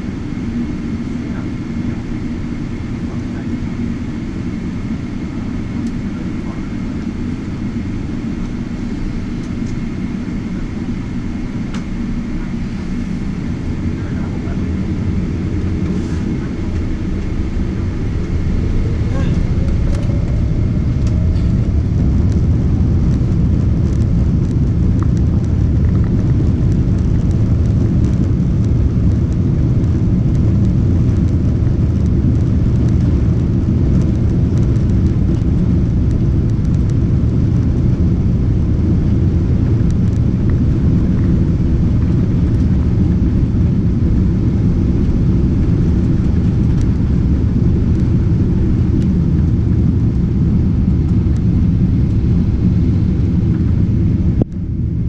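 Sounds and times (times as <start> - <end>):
jet engines rumbling at takeoff: 0.0 - 55.0
runway and airflow noise: 0.0 - 55.0.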